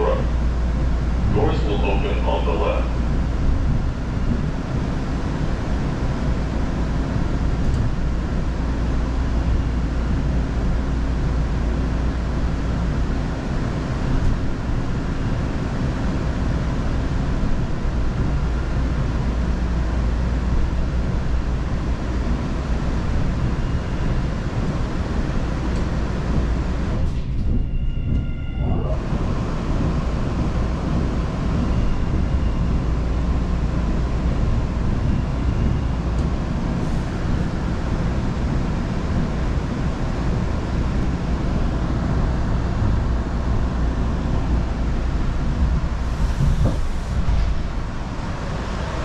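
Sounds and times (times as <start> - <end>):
subway wheels rumbling on rails: 0.0 - 49.0.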